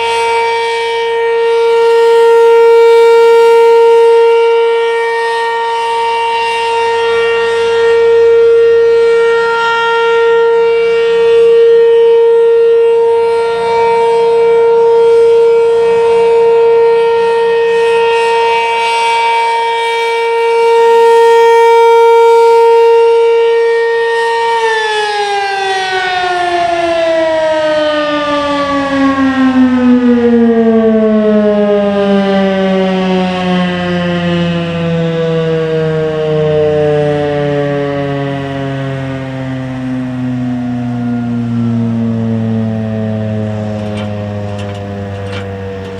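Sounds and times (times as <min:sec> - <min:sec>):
rotating storm siren: 0:00.0 - 0:45.9.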